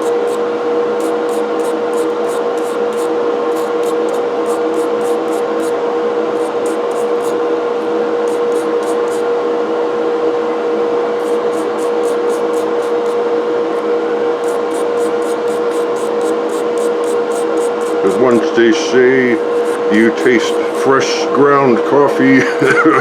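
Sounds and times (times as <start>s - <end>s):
wire brush scrubbing metal: 0.0s - 9.3s, 11.2s - 21.4s
loud steady hum with whine: 0.0s - 23.0s.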